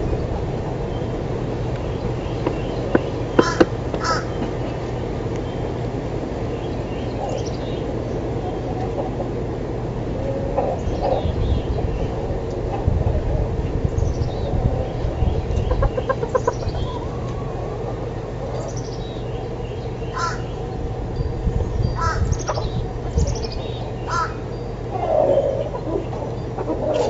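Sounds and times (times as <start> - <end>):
small birds chirping: 0.0 - 9.4, 10.3 - 12.8, 13.4 - 27.0
steady low hum: 0.0 - 27.0
chickens clucking: 0.1 - 6.0, 6.6 - 27.0.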